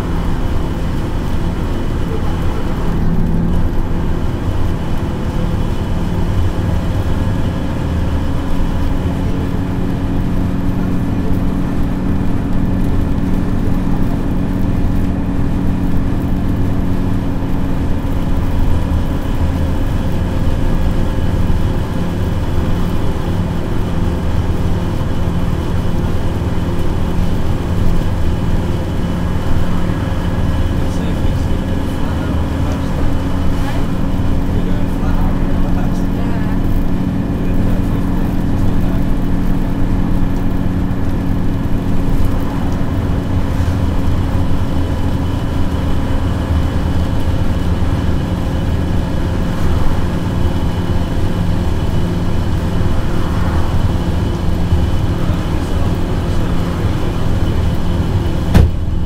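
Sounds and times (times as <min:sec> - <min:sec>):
bus diesel engine droning: 0:00.0 - 0:59.0
tyre and road noise: 0:00.0 - 0:59.0.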